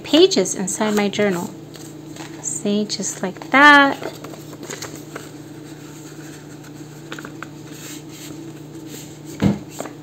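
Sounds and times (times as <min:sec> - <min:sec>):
steady low hum: 0:00.0 - 0:10.0
paper rustling: 0:00.8 - 0:02.5, 0:03.1 - 0:10.0.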